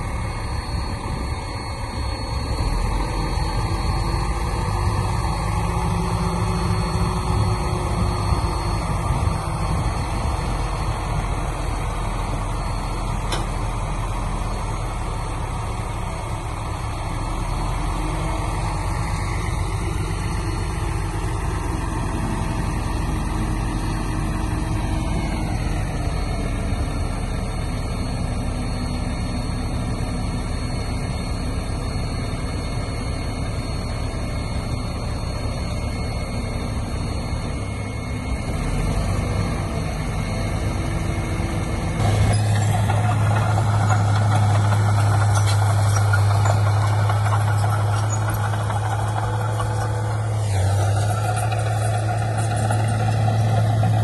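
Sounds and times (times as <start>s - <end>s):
diesel machinery engine drone: 0.0s - 54.0s
whine dropping in pitch: 0.0s - 54.0s.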